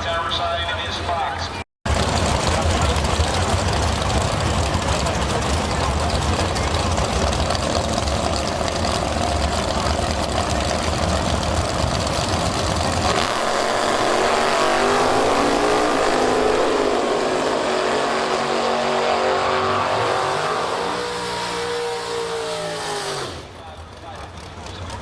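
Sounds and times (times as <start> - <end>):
drag racing car engines: 0.0 - 25.0.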